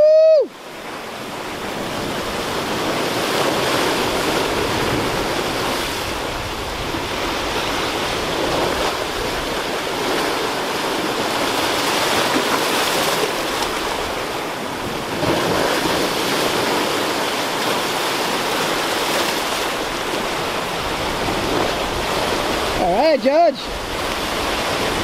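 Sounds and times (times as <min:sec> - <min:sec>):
surf breaking on rocks: 0:00.6 - 0:25.0.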